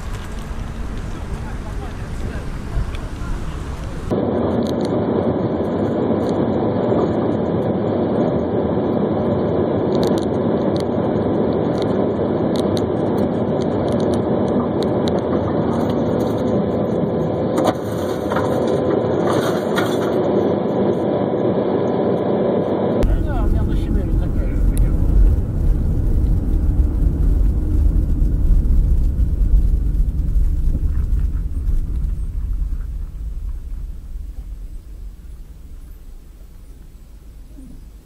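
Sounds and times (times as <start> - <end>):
vehicle road and engine noise: 0.0 - 5.0, 5.7 - 38.0.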